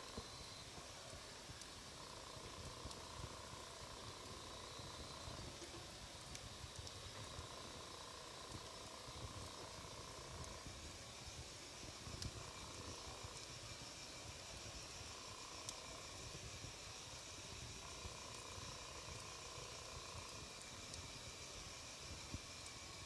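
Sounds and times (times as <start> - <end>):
fire crackling and popping: 0.1 - 13.6, 17.6 - 22.8.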